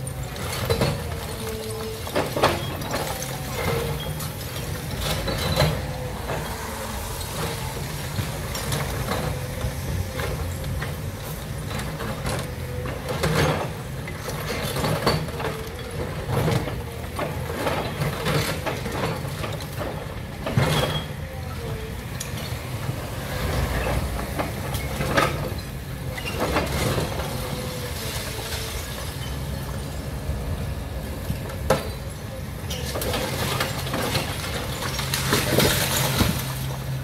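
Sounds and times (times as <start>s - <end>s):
excavator diesel engine whining: 0.0s - 37.0s
rubble and metal clattering: 0.0s - 37.0s.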